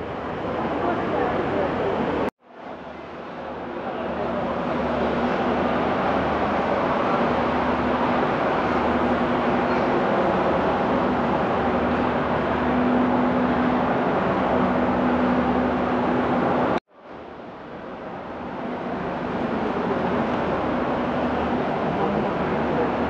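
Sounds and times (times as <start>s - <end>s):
loud rumbling noise: 0.0s - 23.0s.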